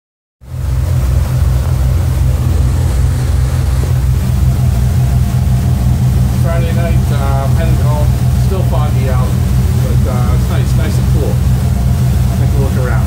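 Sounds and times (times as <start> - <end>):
boat engine rumbling: 0.4 - 13.0
wind and water rushing: 0.4 - 13.0.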